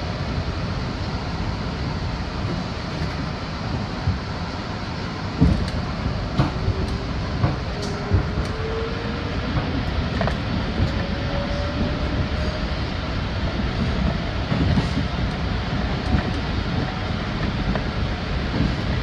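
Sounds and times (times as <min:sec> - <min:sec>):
subway traction motors whining: 0:00.0 - 0:19.0
wheels rumbling on rail: 0:00.0 - 0:19.0.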